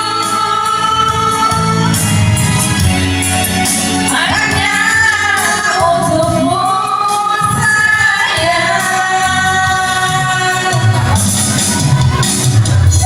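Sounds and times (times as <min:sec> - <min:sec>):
person singing long notes: 0:00.0 - 0:12.2
backing music: 0:00.0 - 0:13.0.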